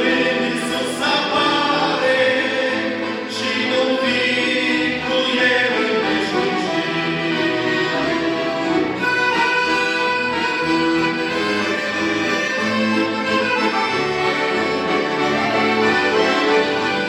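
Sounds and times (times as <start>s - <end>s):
instrumental praise song: 0.0s - 17.0s.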